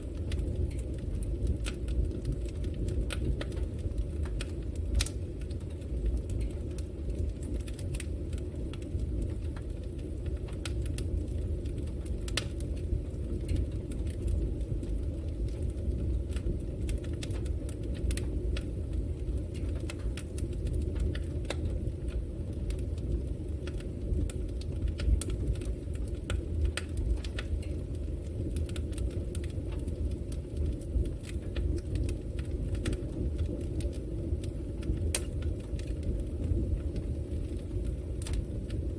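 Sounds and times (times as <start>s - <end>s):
fire crackling and popping: 0.0s - 38.9s
fire rumbling: 0.0s - 38.9s.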